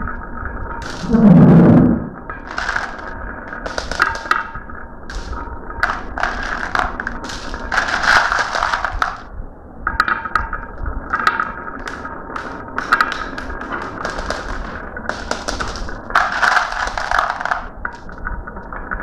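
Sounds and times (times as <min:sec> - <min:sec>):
marbles rolling and clattering: 0:00.8 - 0:01.3, 0:02.3 - 0:09.3, 0:11.1 - 0:19.0.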